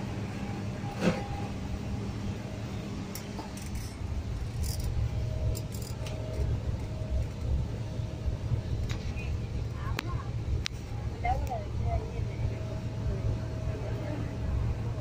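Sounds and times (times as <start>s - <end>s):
faint hum: 0.0s - 15.0s
road and engine rumble: 0.0s - 15.0s.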